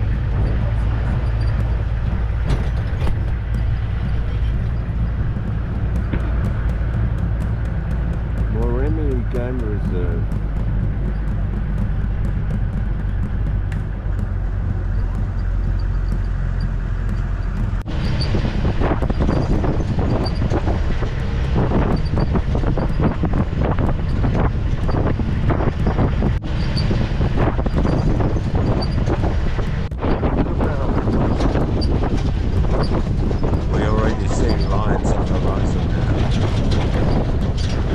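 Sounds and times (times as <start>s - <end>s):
vehicle bumps and jolts: 0.0s - 37.9s
vehicle engine rumble: 0.0s - 37.9s
wind buffeting microphone: 0.0s - 37.9s.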